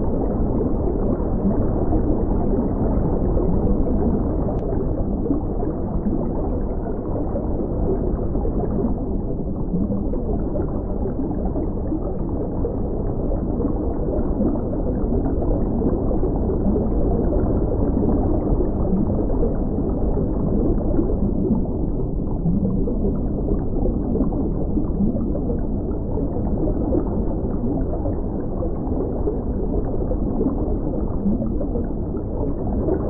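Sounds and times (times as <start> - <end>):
muffled rumble of moving water: 0.0 - 33.0.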